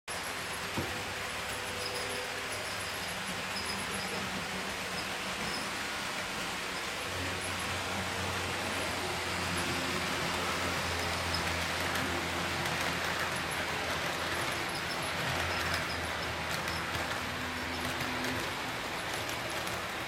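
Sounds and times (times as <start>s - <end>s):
model train motor humming: 0.1s - 20.0s
wheels running on track: 0.1s - 20.0s.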